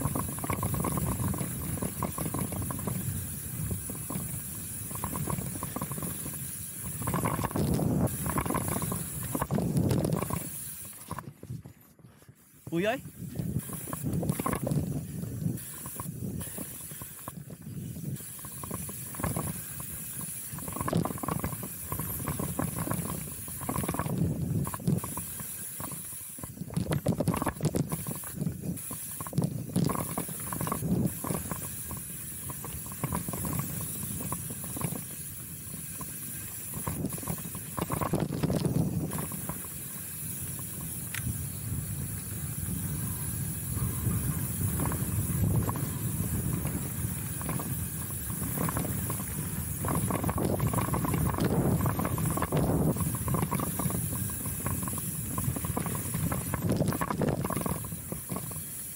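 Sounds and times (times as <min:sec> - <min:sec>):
bike knocks and rattles: 0:00.0 - 0:11.6, 0:18.0 - 0:35.2, 0:35.8 - 0:58.8
bike tyres on dirt: 0:00.0 - 0:58.9
wind rush on microphone: 0:00.0 - 0:58.9.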